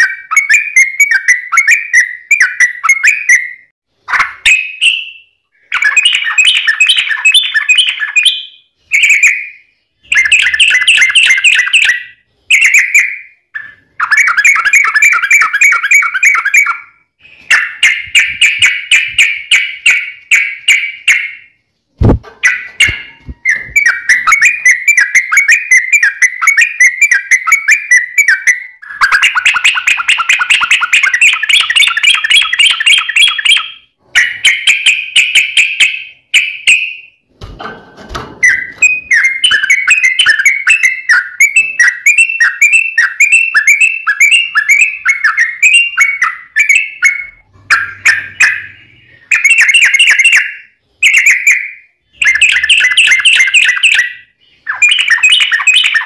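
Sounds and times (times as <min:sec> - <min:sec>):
bird chattering song: 0:00.0 - 0:37.2, 0:38.4 - 0:56.0.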